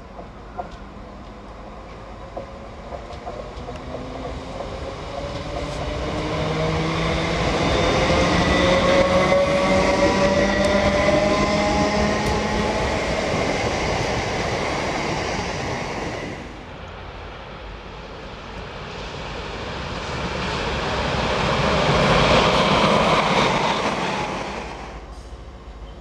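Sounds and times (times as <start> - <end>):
train wheels rumbling on rails: 0.0 - 16.7, 17.7 - 26.0.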